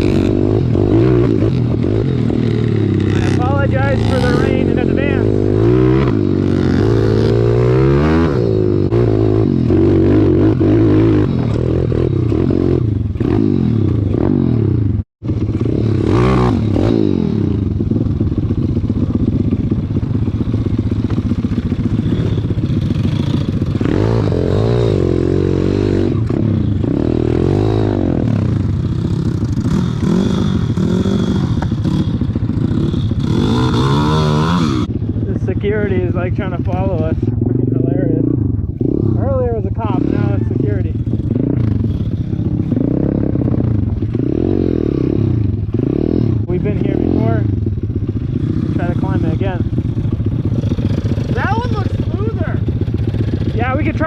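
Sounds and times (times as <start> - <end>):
pit bike engines revving: 0.0 - 54.0.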